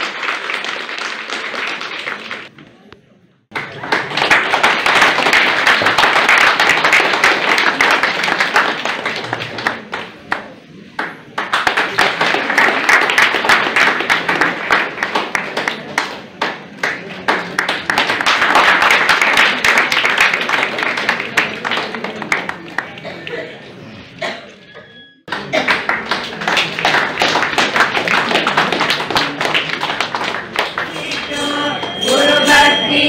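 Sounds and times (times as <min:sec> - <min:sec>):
audience applauding: 0:00.0 - 0:02.5, 0:03.5 - 0:23.4, 0:25.3 - 0:33.0.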